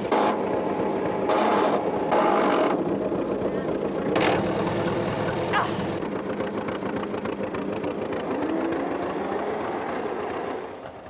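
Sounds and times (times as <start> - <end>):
tractor engine rattling: 0.0 - 11.0.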